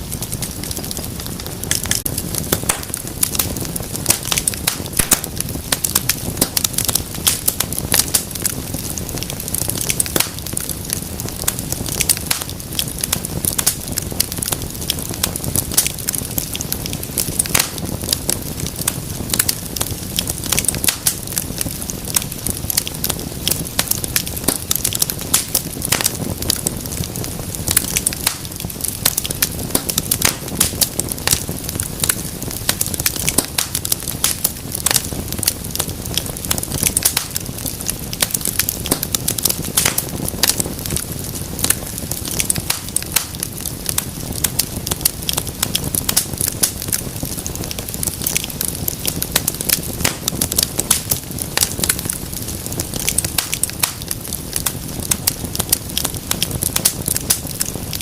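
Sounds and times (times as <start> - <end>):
low rush of flame: 0.0 - 58.0
wood fire crackling and popping: 0.0 - 58.0.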